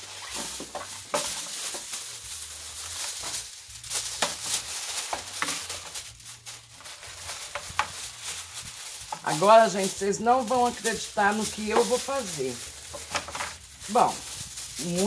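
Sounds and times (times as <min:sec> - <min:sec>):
aluminium foil crinkling: 0:00.0 - 0:15.0.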